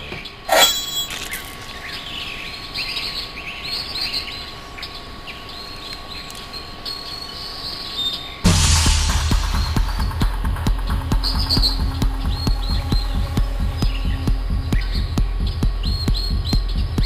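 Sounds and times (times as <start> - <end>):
birds chirping: 0.0 - 8.4, 10.8 - 17.0.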